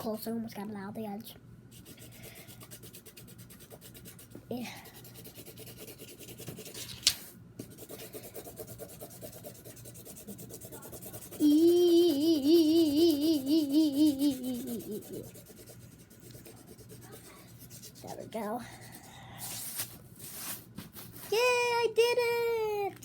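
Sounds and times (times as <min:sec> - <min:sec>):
pencil scratching on paper: 0:01.7 - 0:07.0, 0:07.6 - 0:21.4.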